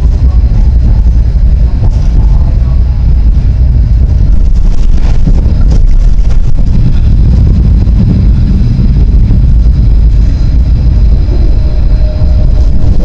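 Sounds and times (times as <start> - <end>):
tram rumbling along track: 0.0 - 13.0.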